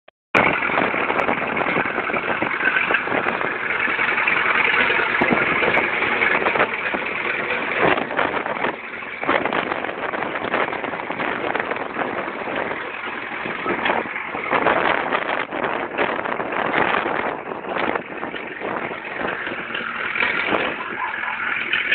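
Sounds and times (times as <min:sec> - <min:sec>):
diesel engine running: 0:00.4 - 0:21.9
steel tracks clanking: 0:00.4 - 0:21.9.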